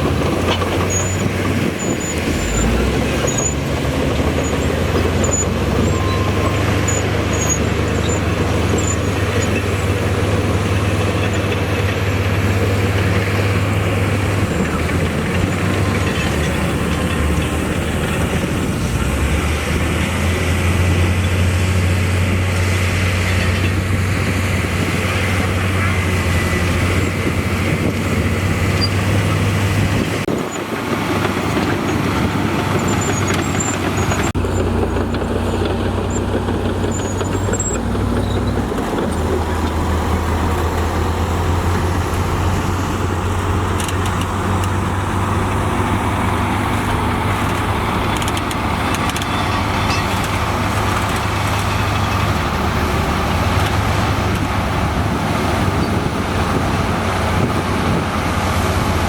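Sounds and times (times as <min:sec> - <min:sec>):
diesel construction machinery droning: 0:00.0 - 0:59.0.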